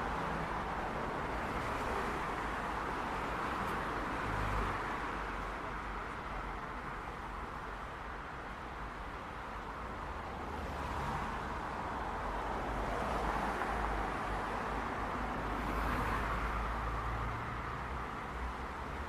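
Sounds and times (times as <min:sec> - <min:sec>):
car and tyre noise: 0:00.0 - 0:19.0.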